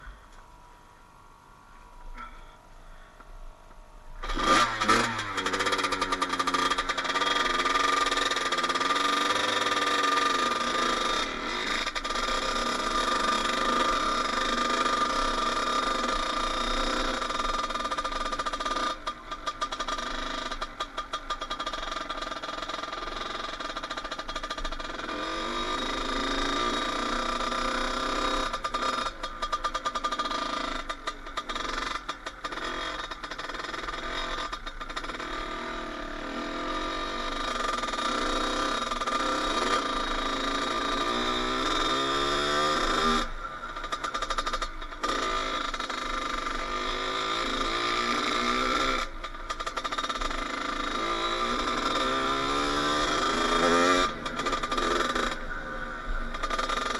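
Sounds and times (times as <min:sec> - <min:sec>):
dirt bike engine revving: 0:04.2 - 0:56.9.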